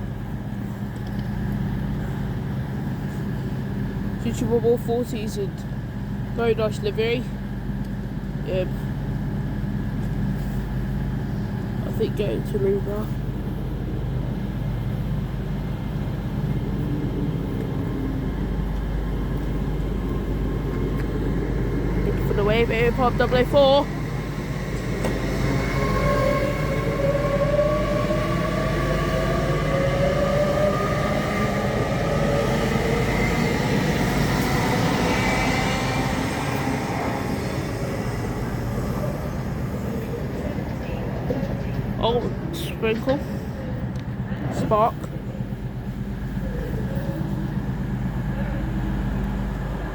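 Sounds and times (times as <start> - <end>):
train engine humming: 0.0 - 49.9.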